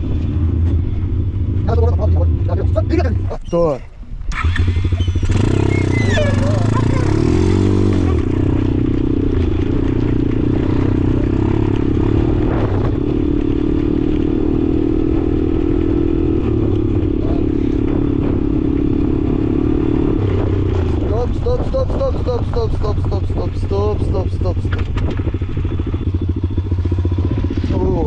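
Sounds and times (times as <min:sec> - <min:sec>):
motorcycle engine running: 0:00.0 - 0:03.5, 0:04.1 - 0:28.0.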